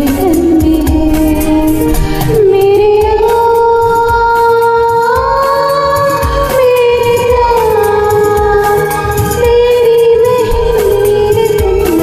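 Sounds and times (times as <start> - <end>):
karaoke backing track with beat: 0.0 - 12.0
woman singing: 0.0 - 12.0.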